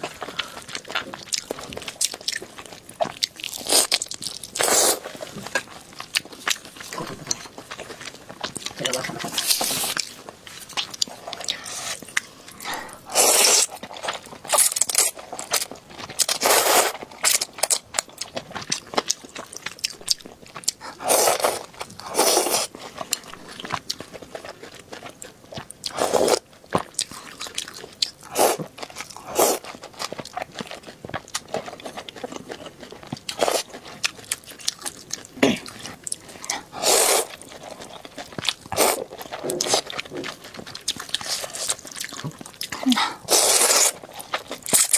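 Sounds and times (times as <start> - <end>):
person chewing and crunching: 0.0 - 44.9.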